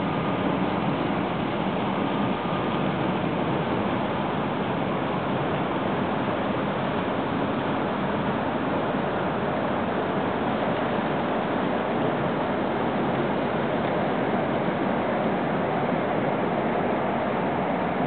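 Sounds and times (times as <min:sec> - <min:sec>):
ship engine drone: 0:00.0 - 0:18.0
water washing along hull: 0:00.0 - 0:18.0.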